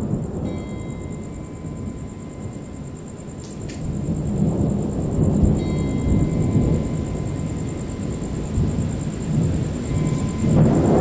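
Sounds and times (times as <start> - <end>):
rolling thunder: 0.0 - 11.0
steady rain: 0.0 - 11.0.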